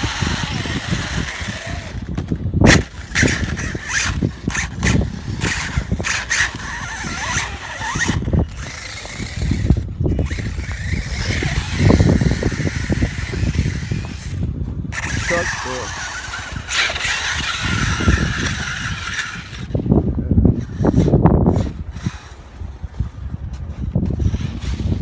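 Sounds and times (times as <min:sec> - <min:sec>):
rc truck motors whining: 0:00.0 - 0:25.0
wind buffeting microphone: 0:00.0 - 0:25.0.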